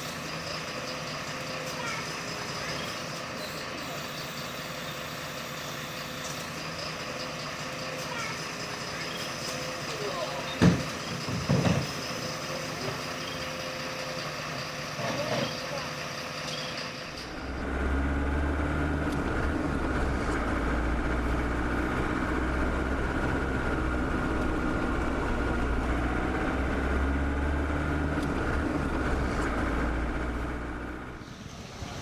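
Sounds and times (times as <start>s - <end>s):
car engine and tyres droning: 0.0s - 32.0s.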